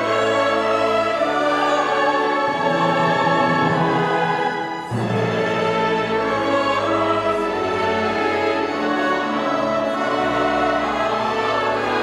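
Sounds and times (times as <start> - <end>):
choir singing sustained chords: 0.0 - 12.0
strings and clarinets: 0.0 - 12.0.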